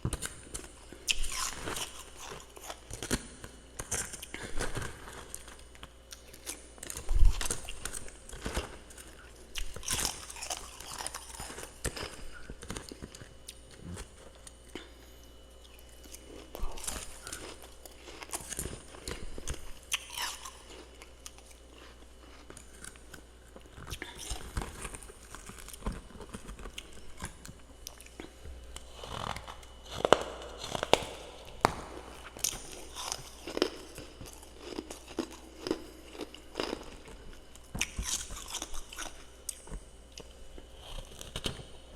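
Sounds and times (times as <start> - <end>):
crunching and chewing frost: 0.0 - 41.9.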